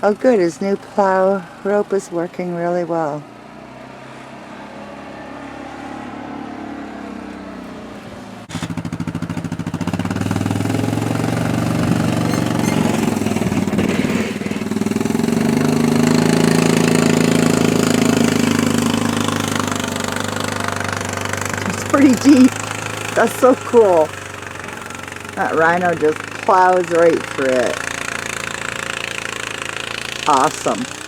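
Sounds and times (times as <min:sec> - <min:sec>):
single-cylinder engine running: 0:00.0 - 0:31.0
snow plow pushing snow: 0:00.0 - 0:31.0.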